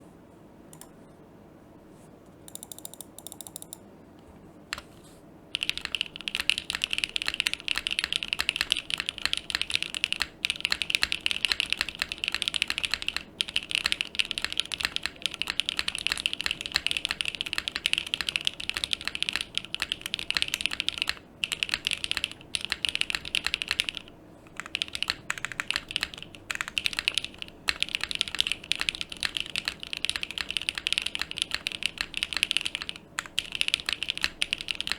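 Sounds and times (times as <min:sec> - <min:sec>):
mechanical keyboard typing: 0:02.5 - 0:03.8, 0:05.5 - 0:34.9.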